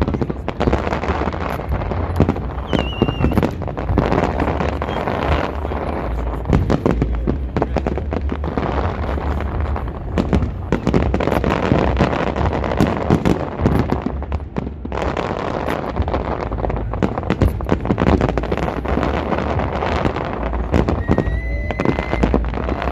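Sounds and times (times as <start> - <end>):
fireworks bangs and crackling: 0.0 - 22.9.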